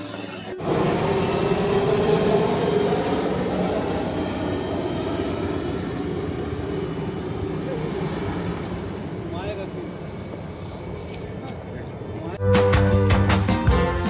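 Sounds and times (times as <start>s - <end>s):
helicopter rotor and engine rumble: 0.0s - 12.4s
high turbine whine: 0.0s - 13.1s.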